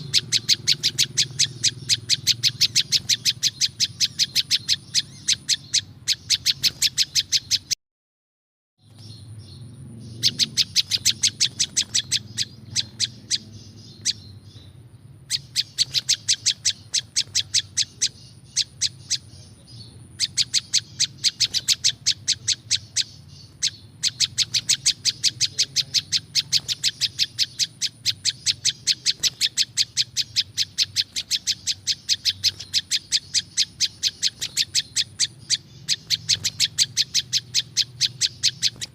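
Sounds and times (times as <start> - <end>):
bird singing high chirps: 0.0 - 7.8, 8.8 - 38.9.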